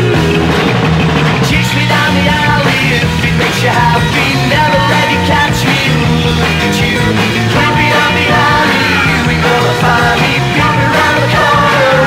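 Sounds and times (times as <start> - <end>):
rock band music: 0.0 - 12.0.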